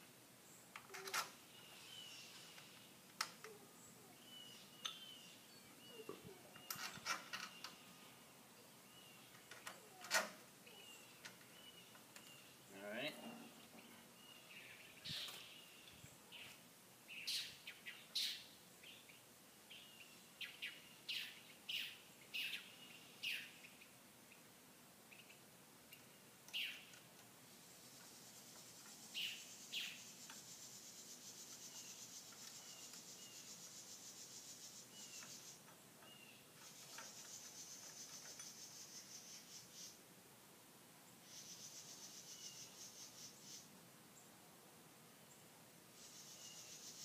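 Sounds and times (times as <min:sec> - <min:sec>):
birds chirping: 0:00.0 - 0:40.0, 0:41.1 - 0:44.3, 0:45.2 - 0:47.0.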